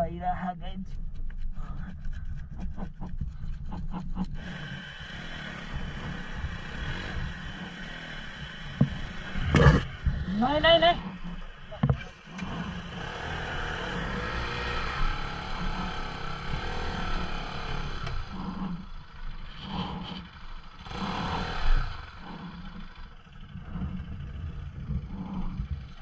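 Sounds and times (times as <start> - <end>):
motorcycle engine revving: 2.4 - 26.0.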